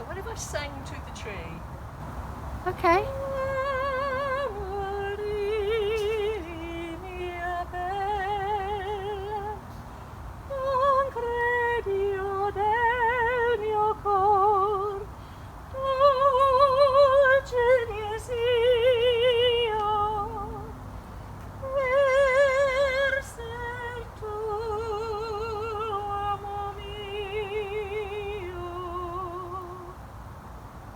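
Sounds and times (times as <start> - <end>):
woman singing unaccompanied: 2.7 - 9.8, 10.4 - 20.9, 21.6 - 30.1.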